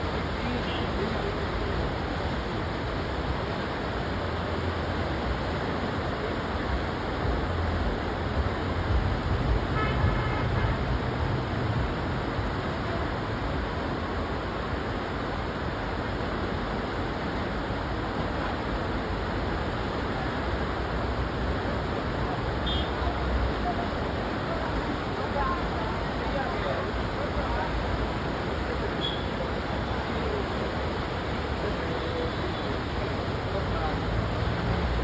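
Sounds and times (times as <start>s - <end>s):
river water rushing: 0.0s - 9.8s, 10.8s - 35.0s.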